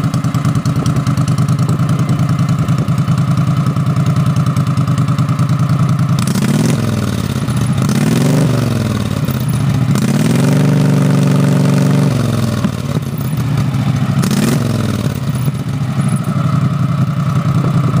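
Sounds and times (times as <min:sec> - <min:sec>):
engine idling and revving: 0:00.0 - 0:18.0.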